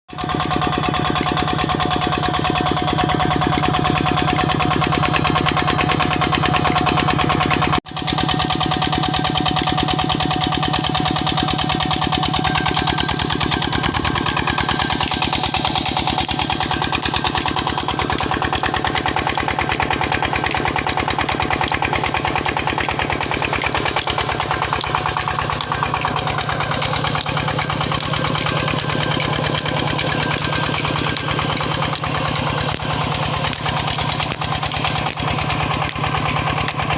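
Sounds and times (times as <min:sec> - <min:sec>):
diesel engine running: 0:00.1 - 0:36.9.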